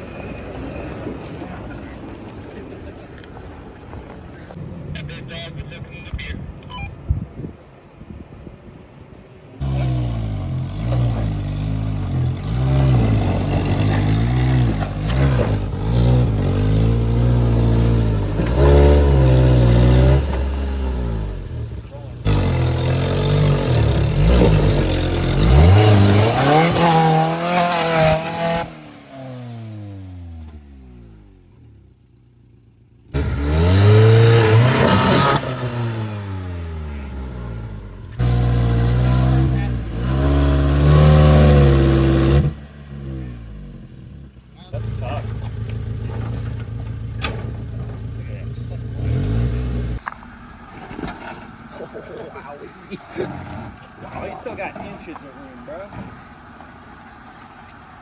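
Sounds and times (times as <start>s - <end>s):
engine revving under load: 9.5s - 58.0s.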